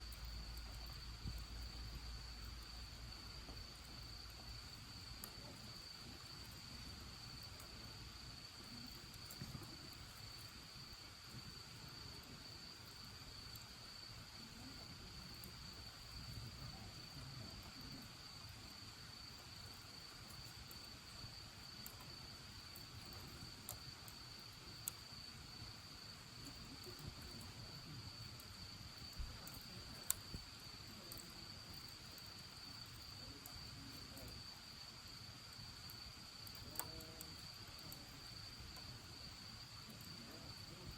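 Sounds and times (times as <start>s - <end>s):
bonfire crackles: 0.0s - 40.9s
crickets trilling: 0.0s - 40.9s.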